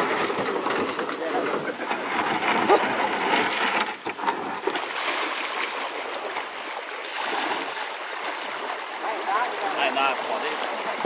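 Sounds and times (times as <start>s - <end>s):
creek water running over rocks: 0.0s - 11.0s
water splashes: 0.0s - 11.0s.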